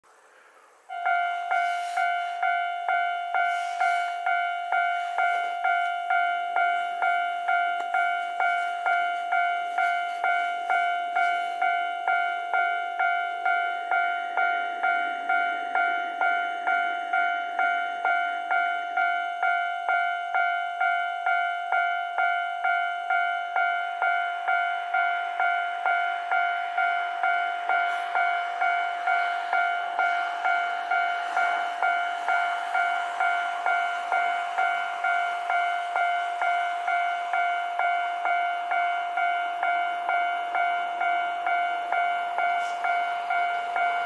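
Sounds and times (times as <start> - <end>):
level-crossing warning bell dinging: 0.9 - 44.0.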